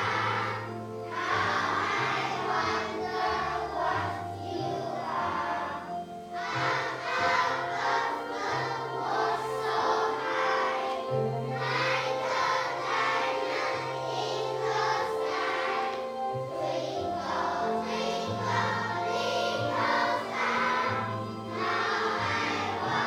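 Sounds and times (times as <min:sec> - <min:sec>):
children singing in choir: 0:00.0 - 0:23.0
instrumental accompaniment: 0:00.0 - 0:23.0.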